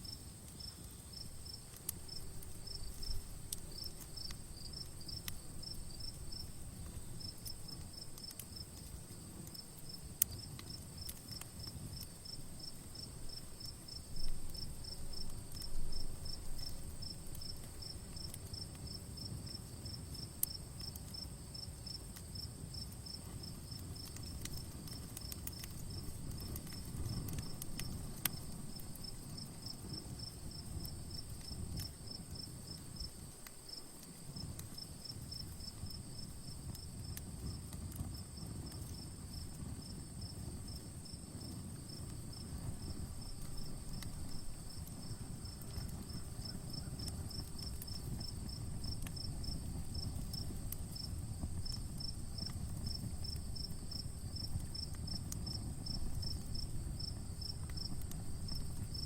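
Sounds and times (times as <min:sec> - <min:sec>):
campfire hissing and crackling: 0:00.0 - 0:59.0
crickets chirping: 0:00.0 - 0:59.0.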